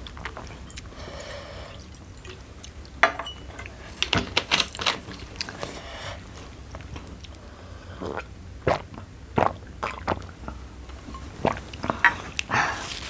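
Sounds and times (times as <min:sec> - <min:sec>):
person chewing food: 0:00.0 - 0:03.0, 0:05.0 - 0:13.0.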